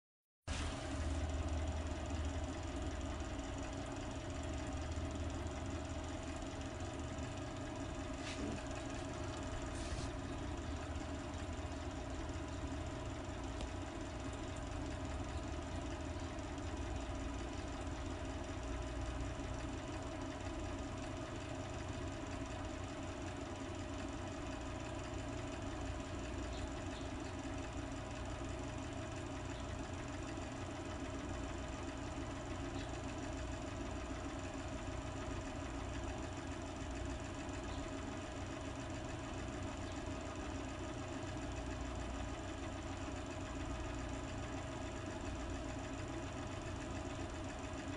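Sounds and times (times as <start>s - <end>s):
machine hum: 0.5s - 47.9s.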